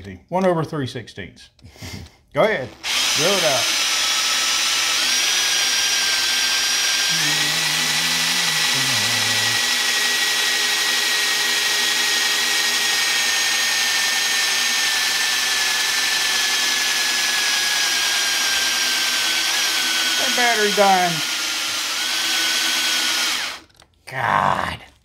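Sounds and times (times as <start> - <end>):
cordless drill boring into metal: 2.6 - 23.8.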